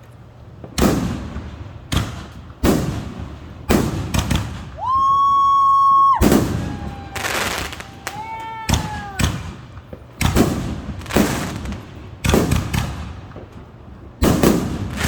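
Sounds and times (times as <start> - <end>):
firework bangs: 0.0 - 15.0
whistling firework: 0.8 - 13.4, 14.1 - 15.0.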